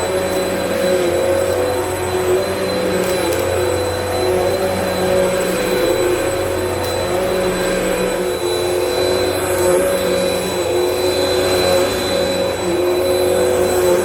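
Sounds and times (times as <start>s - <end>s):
upright vacuum running: 0.0s - 14.0s.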